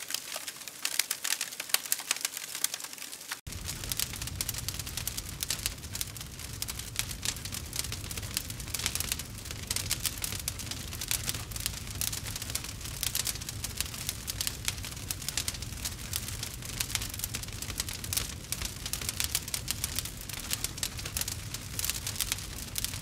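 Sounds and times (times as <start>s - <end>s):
campfire crackling and popping: 0.0s - 23.0s
low steady rumble: 3.5s - 23.0s.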